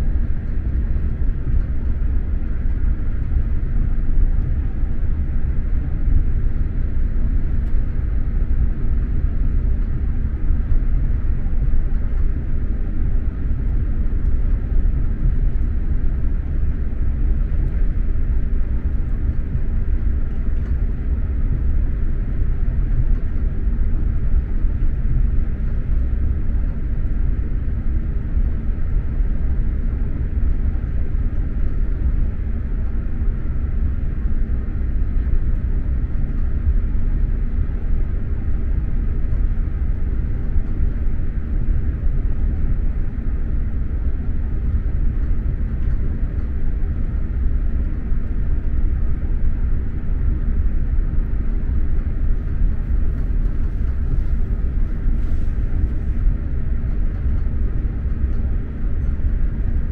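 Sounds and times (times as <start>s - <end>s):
train rumble inside carriage: 0.0s - 59.9s.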